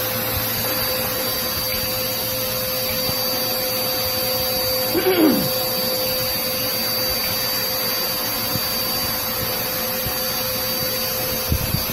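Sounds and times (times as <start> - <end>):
vacuum cleaner motor whining: 0.0 - 11.9.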